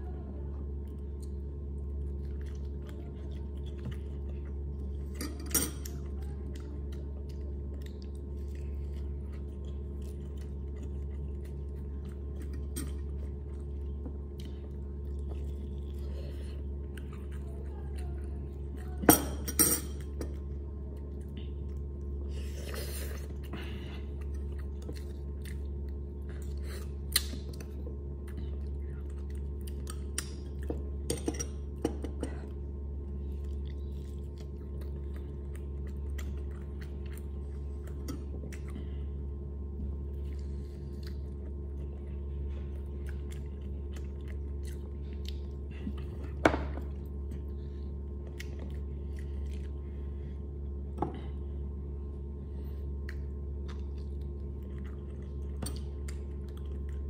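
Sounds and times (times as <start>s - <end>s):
steady low hum: 0.0s - 57.0s
person chewing: 0.8s - 19.0s, 19.9s - 57.0s.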